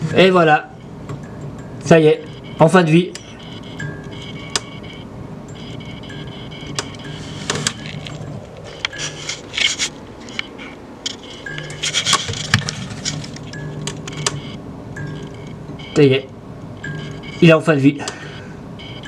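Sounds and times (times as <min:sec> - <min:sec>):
fluorescent tube buzzing hum: 0:00.0 - 0:19.0.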